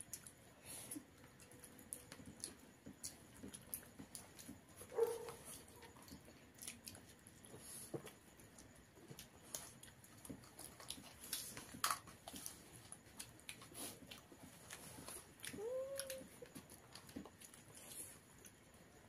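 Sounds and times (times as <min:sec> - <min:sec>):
chewing: 0:00.0 - 0:19.0.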